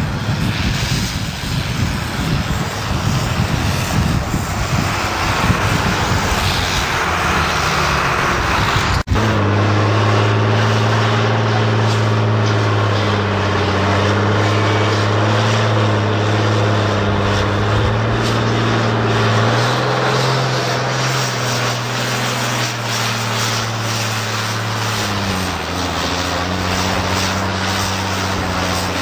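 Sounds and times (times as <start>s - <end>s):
tractor engine at high revs: 0.0s - 29.0s.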